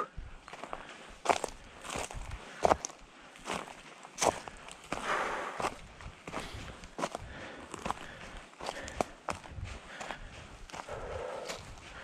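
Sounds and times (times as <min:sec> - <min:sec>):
footsteps on a trail: 0:00.1 - 0:12.0.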